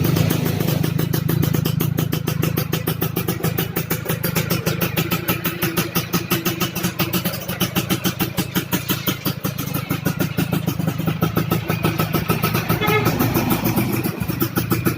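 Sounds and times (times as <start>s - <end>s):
two-stroke engine lumpy idle: 0.0s - 14.9s.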